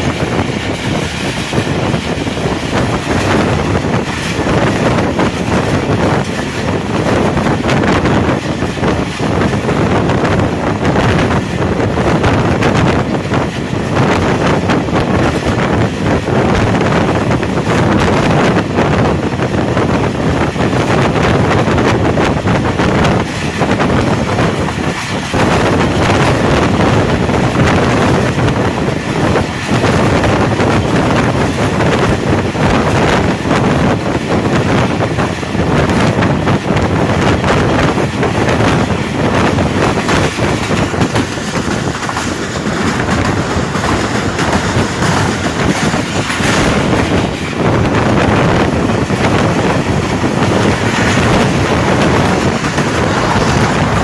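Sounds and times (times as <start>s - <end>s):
train wheels rumbling on track: 0.0s - 54.0s
wind buffeting microphone: 0.0s - 54.0s.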